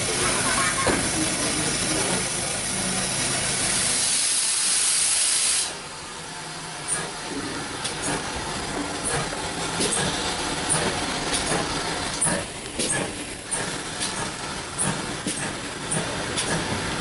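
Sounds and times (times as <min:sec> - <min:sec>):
steam locomotive hissing: 0:00.0 - 0:06.0, 0:06.8 - 0:17.0.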